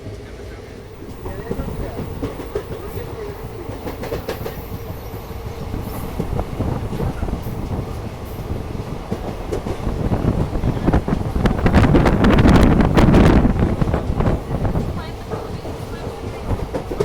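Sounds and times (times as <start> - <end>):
train rumbling on track: 0.0 - 17.0
rattling clacks: 0.8 - 17.0.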